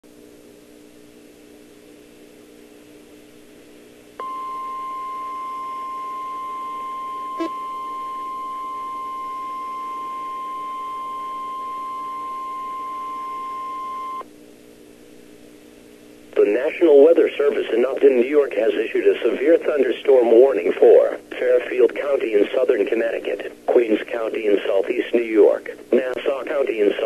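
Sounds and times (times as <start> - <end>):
low steady hum: 0.1 - 27.0.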